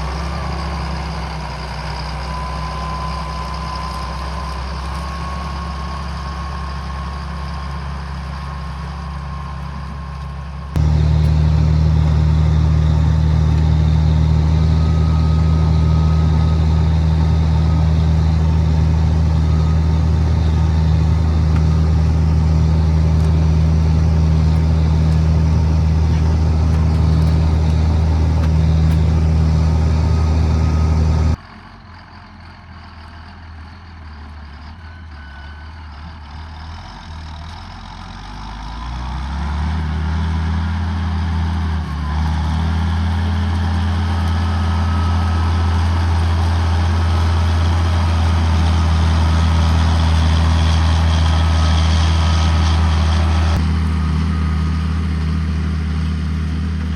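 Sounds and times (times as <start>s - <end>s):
tractor diesel engine running: 0.0s - 34.1s, 36.8s - 56.9s.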